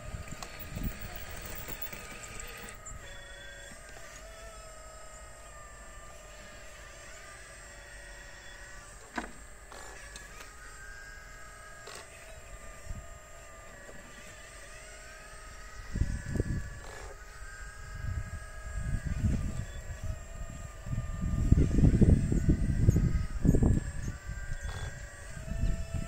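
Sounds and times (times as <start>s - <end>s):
model excavator drive whine: 0.0s - 26.0s.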